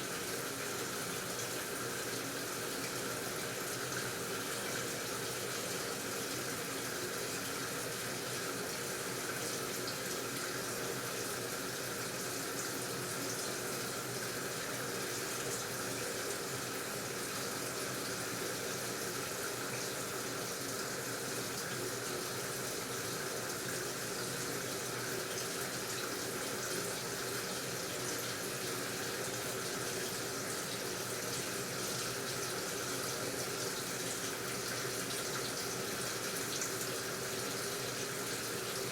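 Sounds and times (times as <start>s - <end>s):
water rushing in washing machine: 0.0s - 38.9s.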